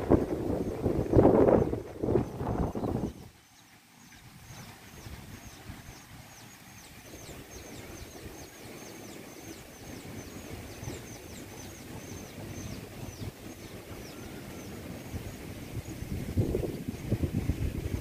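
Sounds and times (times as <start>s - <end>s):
gusty wind buffeting microphone: 0.0s - 18.0s.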